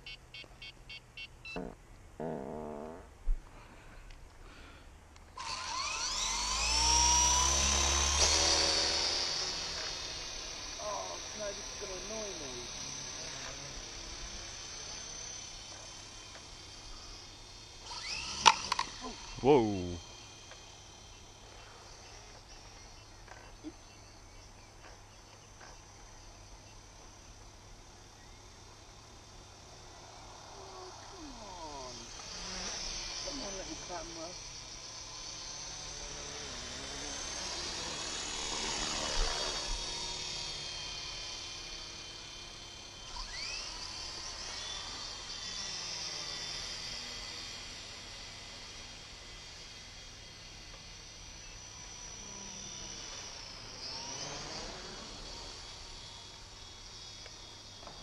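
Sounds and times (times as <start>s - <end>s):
rc helicopters buzzing whine: 0.0s - 58.0s
rising whine: 5.2s - 58.0s.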